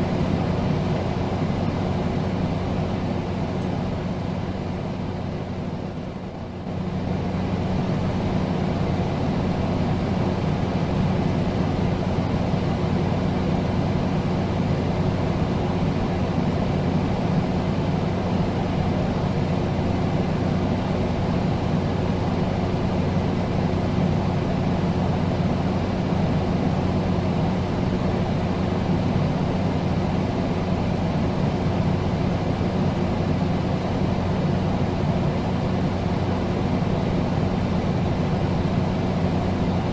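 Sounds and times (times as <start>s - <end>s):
air conditioner air rush: 0.0s - 39.9s
constant low hum: 0.0s - 39.9s.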